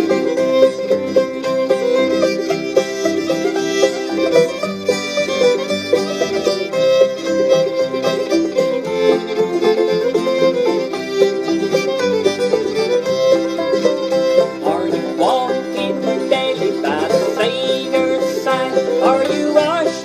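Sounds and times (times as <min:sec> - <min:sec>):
acoustic guitar: 0:00.0 - 0:20.0
banjo: 0:00.0 - 0:20.0
fiddle: 0:00.0 - 0:20.0.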